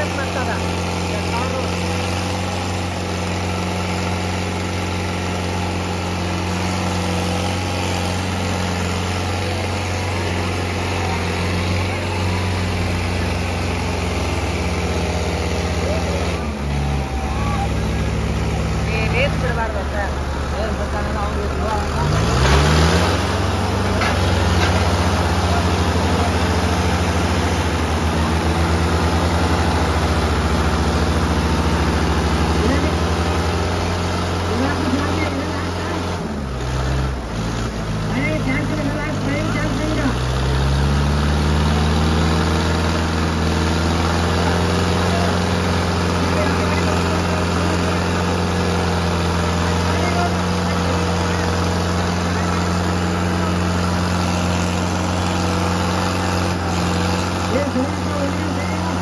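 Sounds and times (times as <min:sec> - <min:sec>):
tractor diesel engines droning: 0:00.0 - 0:59.0.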